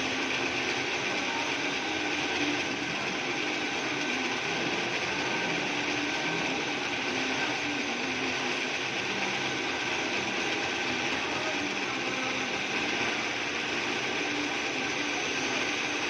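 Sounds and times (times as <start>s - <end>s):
drill press whirring: 0.0s - 16.0s.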